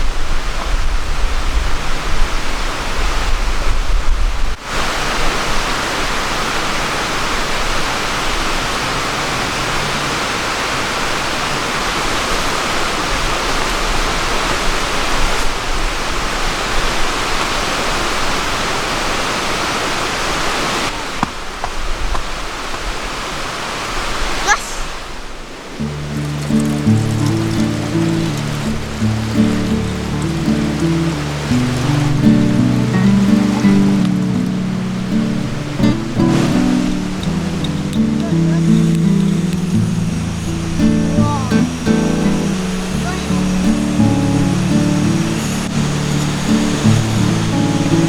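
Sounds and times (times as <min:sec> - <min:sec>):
river flowing: 0:04.5 - 0:48.0.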